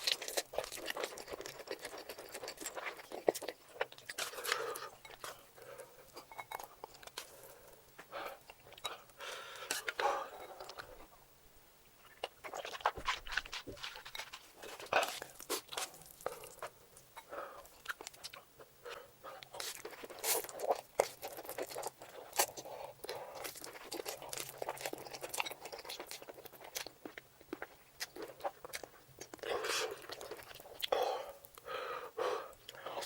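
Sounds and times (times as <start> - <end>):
person chewing and crunching food: 0.0 - 11.1, 12.0 - 31.7.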